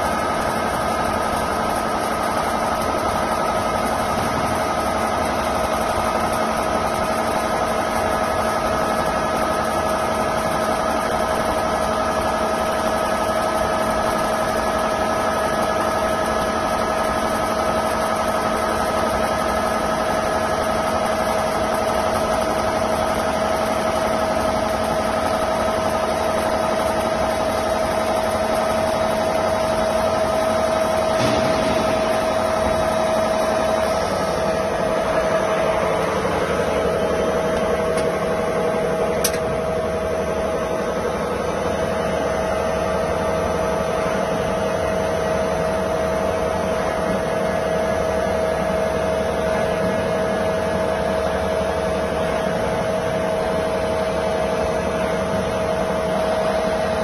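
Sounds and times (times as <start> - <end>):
lathe machine whine: 0.0 - 57.0
running hum: 0.0 - 57.0.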